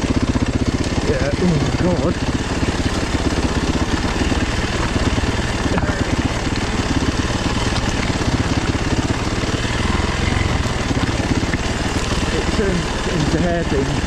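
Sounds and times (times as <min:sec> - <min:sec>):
motorbike engine running low revs: 0:00.0 - 0:14.0.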